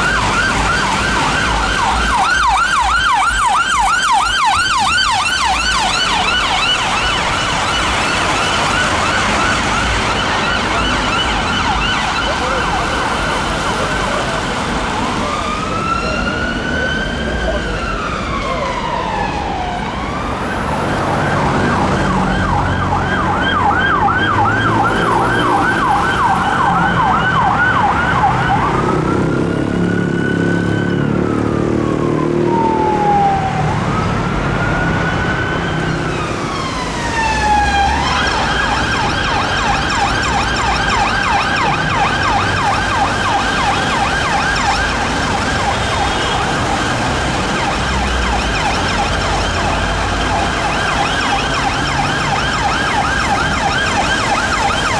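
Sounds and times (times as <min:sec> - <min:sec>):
electronic siren yelping and wailing: 0:00.0 - 0:54.9
traffic noise: 0:00.0 - 0:54.9.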